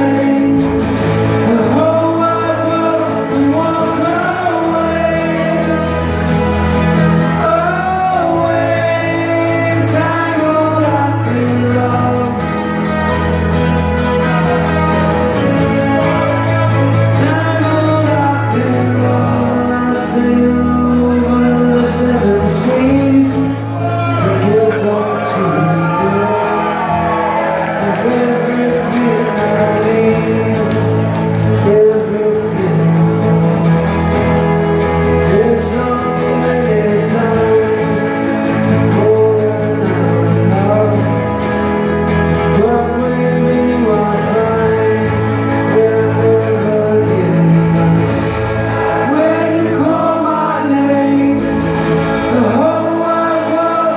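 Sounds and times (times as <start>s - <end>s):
bass notes: 0.0s - 53.9s
man singing: 0.0s - 53.9s
strummed acoustic guitars: 0.0s - 53.9s.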